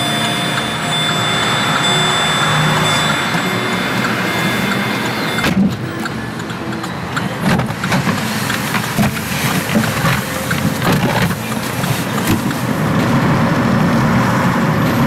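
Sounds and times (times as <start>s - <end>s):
steady car cabin noise: 0.0s - 15.0s.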